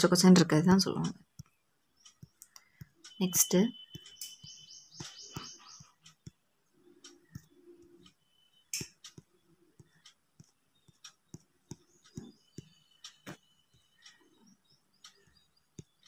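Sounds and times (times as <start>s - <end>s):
faint bird chirping: 0.0s - 16.0s
soft clicks: 0.9s - 16.0s.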